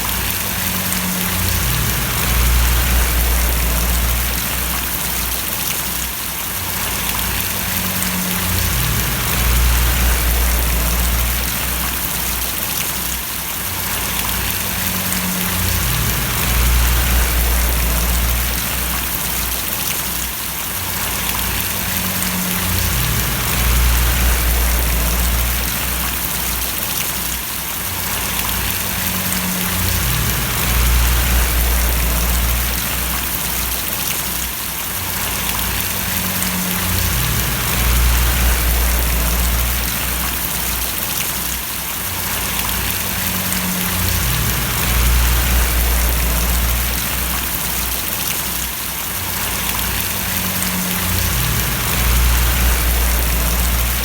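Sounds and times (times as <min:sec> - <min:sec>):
low rumble: 0:00.0 - 0:05.6, 0:06.8 - 0:12.6, 0:13.9 - 0:19.8, 0:21.0 - 0:26.7, 0:28.3 - 0:34.0, 0:35.2 - 0:41.0, 0:42.4 - 0:48.2, 0:49.4 - 0:54.0
rain splashing: 0:00.0 - 0:54.0.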